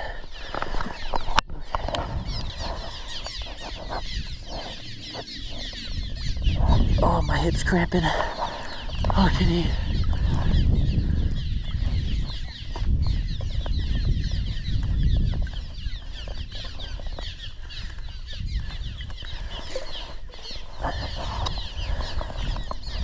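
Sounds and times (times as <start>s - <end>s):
flock of small birds chirping: 0.0s - 23.0s
wind rumbling on microphone: 0.0s - 23.0s.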